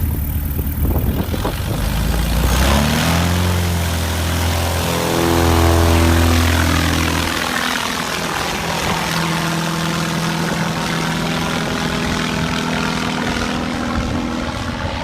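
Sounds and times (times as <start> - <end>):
aircraft engine running: 0.0 - 15.0.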